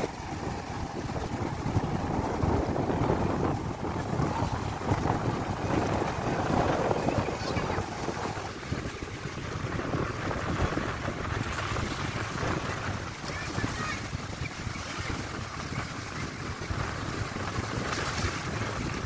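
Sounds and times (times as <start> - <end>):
surf breaking over rocks: 0.0 - 19.0
wind buffeting microphone: 0.0 - 19.0.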